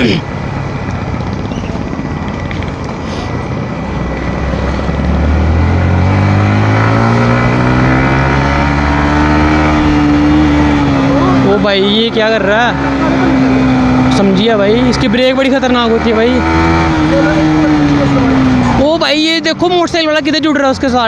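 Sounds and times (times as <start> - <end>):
motorcycle engine accelerating: 0.0 - 21.0
road noise rushing: 0.0 - 21.0.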